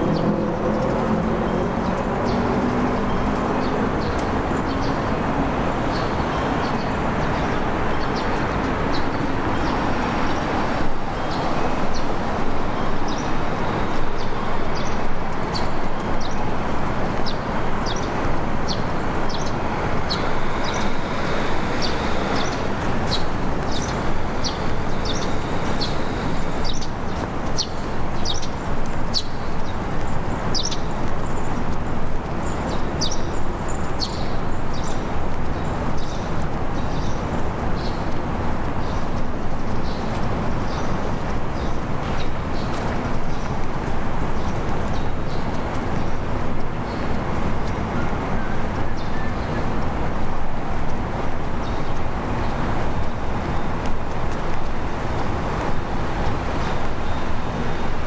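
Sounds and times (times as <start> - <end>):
small birds chirping: 0.0 - 57.9
vehicle rumble: 0.0 - 58.0.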